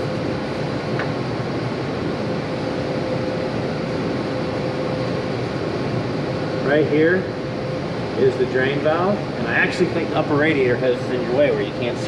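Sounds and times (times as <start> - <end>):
ventilation machinery hiss and hum: 0.0 - 12.0.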